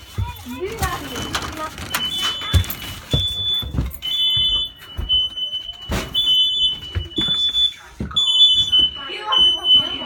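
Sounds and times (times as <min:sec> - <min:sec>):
pulsing smoke alarm tone: 0:00.3 - 0:10.0.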